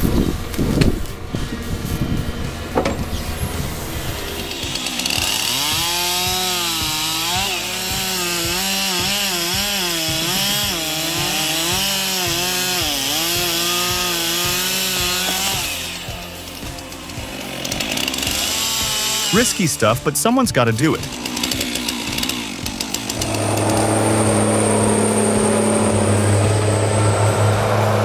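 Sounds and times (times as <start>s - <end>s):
chainsaw cutting: 0.0s - 28.0s.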